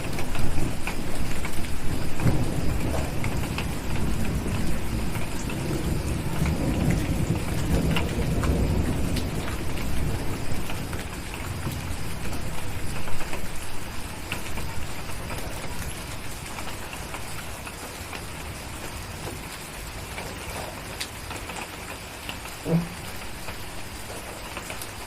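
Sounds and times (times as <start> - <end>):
thunder rumble: 0.0 - 20.9, 22.6 - 24.3
steady rain: 0.0 - 25.0.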